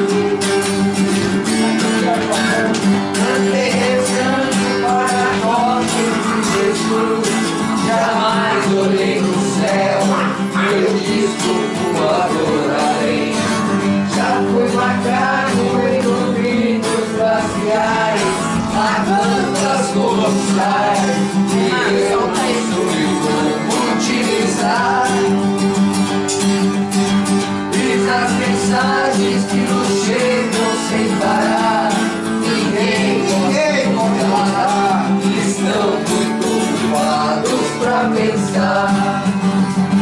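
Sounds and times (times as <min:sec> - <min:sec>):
man singing: 0:00.0 - 0:25.8, 0:27.7 - 0:40.0
acoustic guitar strumming: 0:00.0 - 0:40.0.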